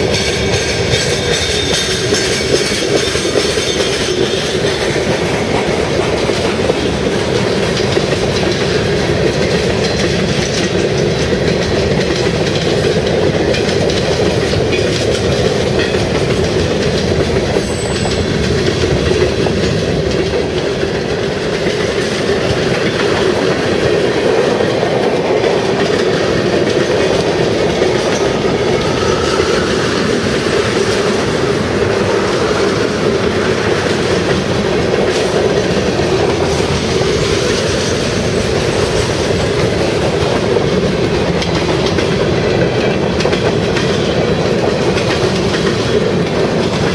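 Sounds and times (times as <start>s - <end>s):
train cars rolling past: 0.0s - 46.9s
wheels clicking over rail joints: 0.0s - 46.9s.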